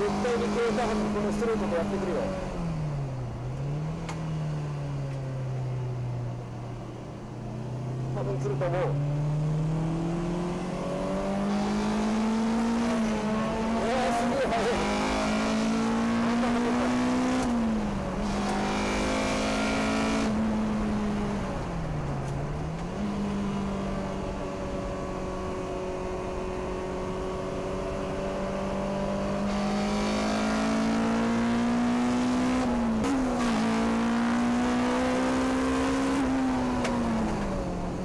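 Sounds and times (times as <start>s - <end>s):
car engine revving in cabin: 0.0s - 6.8s, 7.4s - 38.0s.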